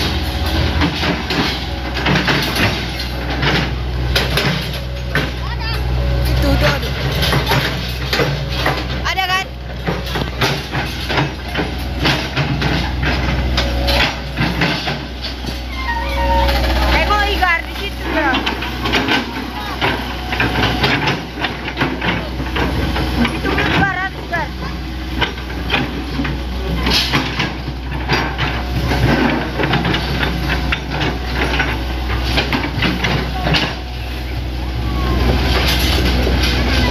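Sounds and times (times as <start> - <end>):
knocks and clatter: 0.0 - 34.3
excavator diesel engine droning: 0.0 - 36.9.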